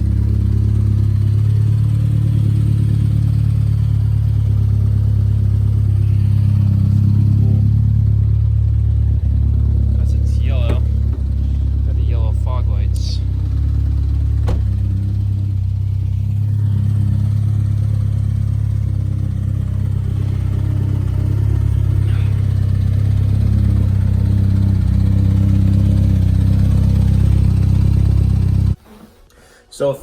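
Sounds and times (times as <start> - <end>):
car engine idling: 0.0 - 28.8.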